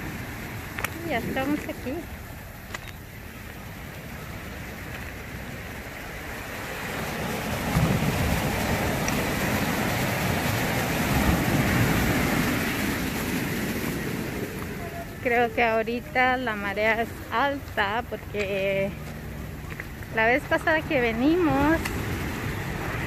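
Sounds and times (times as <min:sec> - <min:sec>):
small waves on cobble beach: 0:00.0 - 0:23.0.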